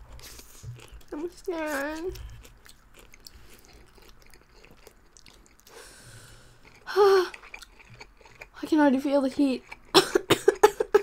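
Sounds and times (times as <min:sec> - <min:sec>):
people chewing noodles: 0:00.0 - 0:11.0.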